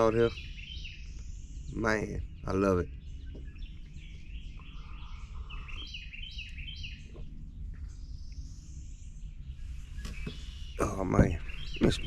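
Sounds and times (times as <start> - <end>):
wild birds calling: 0.0 - 12.0.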